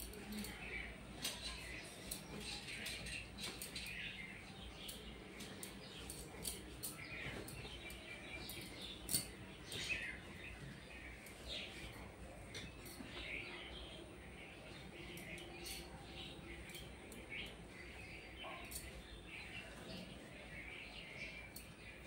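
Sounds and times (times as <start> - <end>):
clothes rustling on a rack: 0.0 - 22.0
small birds chirping: 0.0 - 22.0.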